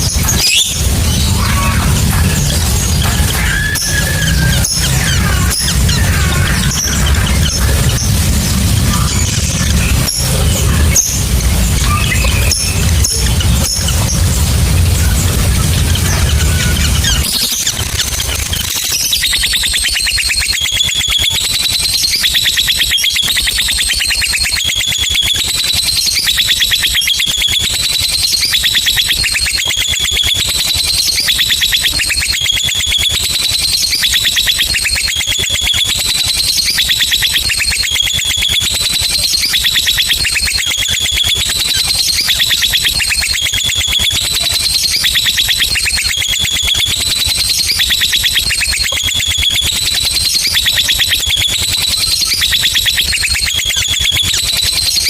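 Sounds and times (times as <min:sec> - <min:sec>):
lovebird rapid chatter: 0:00.0 - 0:55.0.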